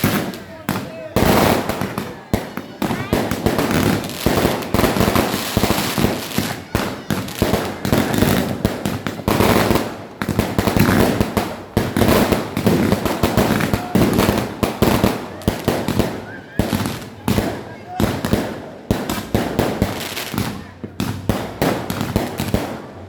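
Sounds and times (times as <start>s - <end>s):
fireworks and firecrackers banging: 0.0s - 23.0s.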